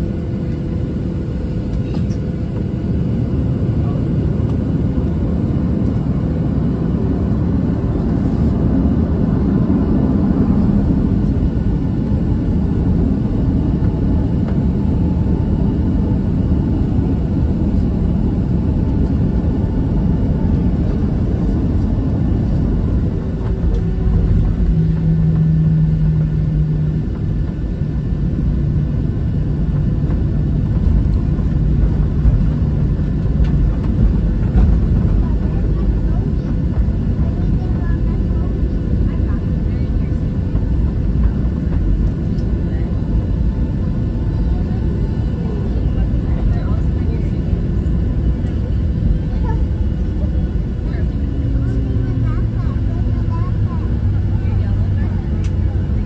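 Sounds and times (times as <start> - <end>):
airplane engines idling rumble: 0.0 - 56.0
low steady hum: 5.7 - 56.0.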